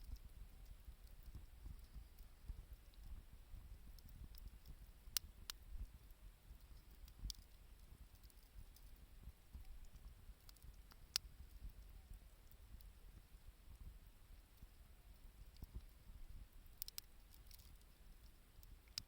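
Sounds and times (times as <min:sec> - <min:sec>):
campfire popping and crackling: 0:00.0 - 0:19.0
faint low rumble: 0:00.0 - 0:19.0.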